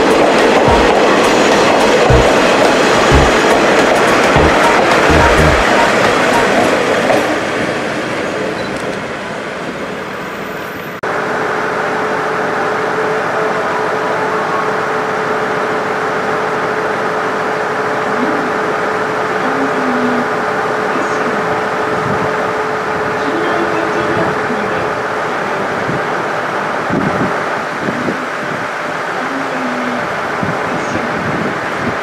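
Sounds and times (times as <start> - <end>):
train rumbling: 0.0 - 10.2, 11.0 - 32.0.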